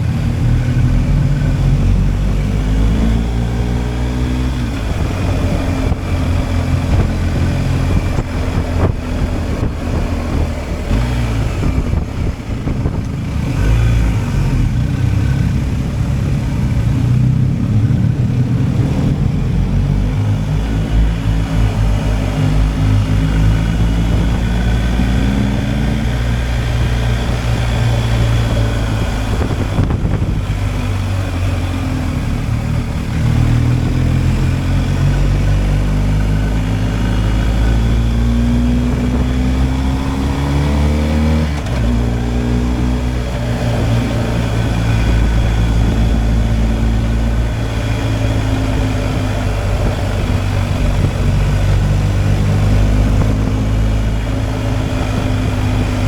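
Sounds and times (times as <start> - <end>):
wind rush: 0.0 - 31.4, 32.8 - 56.0
motorcycle engine accelerating: 0.0 - 56.0.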